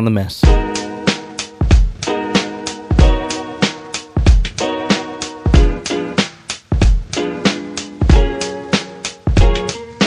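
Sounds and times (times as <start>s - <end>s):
background music with drum beat: 0.4s - 10.0s.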